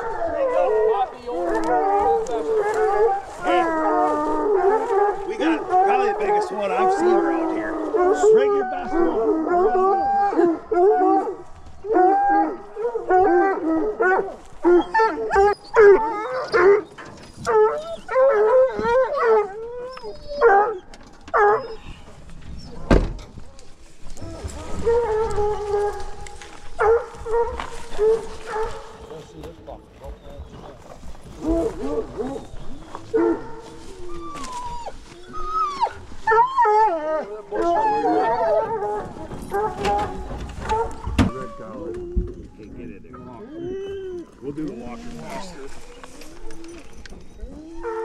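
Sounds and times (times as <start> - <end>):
hounds baying and yelping: 0.0 - 48.0.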